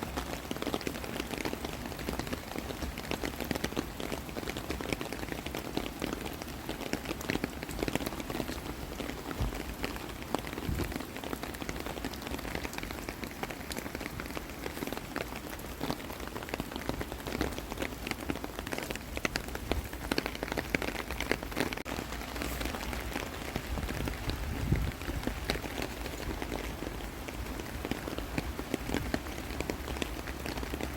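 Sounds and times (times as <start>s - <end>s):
rain falling: 0.0s - 30.9s
raindrops ticking close by: 0.0s - 30.9s.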